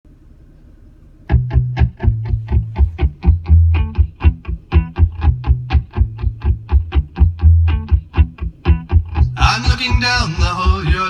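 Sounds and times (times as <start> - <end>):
faint hum: 0.1 - 11.0
loud bass-heavy guitar music: 1.3 - 11.0.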